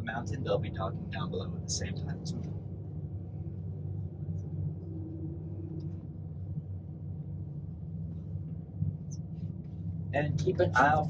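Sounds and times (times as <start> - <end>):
low rumble of tramway cabin: 0.0 - 11.0.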